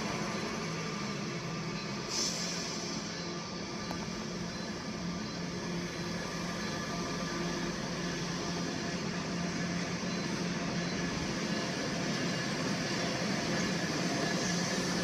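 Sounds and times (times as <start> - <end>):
machinery drone with low hum: 0.0 - 15.0.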